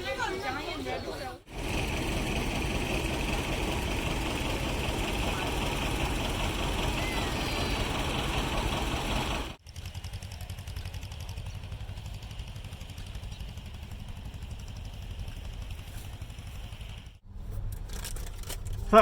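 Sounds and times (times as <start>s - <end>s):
engine running: 1.5s - 19.0s.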